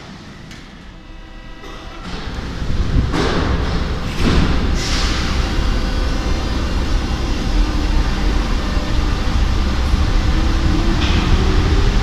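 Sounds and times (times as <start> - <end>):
metro train pulling away: 0.0 - 12.0.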